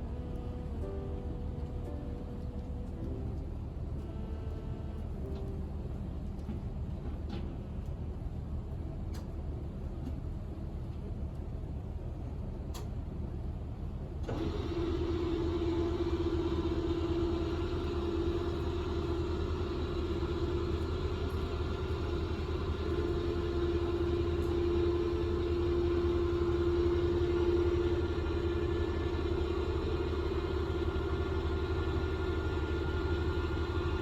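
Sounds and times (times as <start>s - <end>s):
ship engine rumbling: 0.0s - 34.0s.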